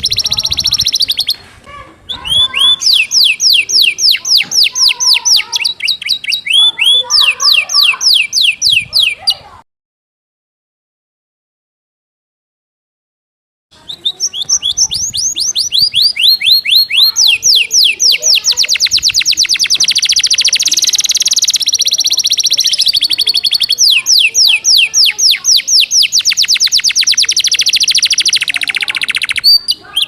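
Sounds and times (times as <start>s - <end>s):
canary singing fast trills: 0.0s - 1.4s, 2.0s - 9.6s, 13.8s - 30.0s.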